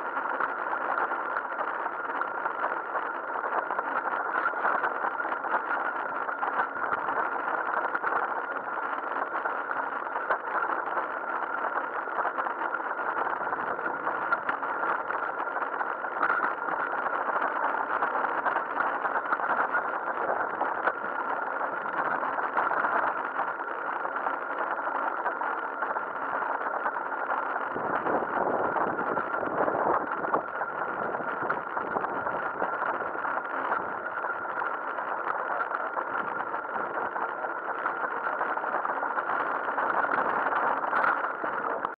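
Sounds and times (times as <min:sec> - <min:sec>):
constant high-pitched tone: 0:00.0 - 0:42.0.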